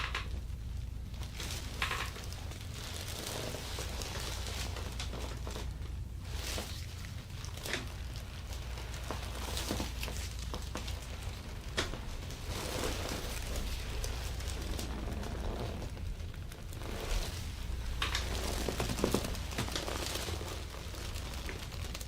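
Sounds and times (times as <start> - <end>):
steady low hum: 0.0 - 22.0
hands rubbing skin and cloth: 3.1 - 16.1, 16.7 - 21.8.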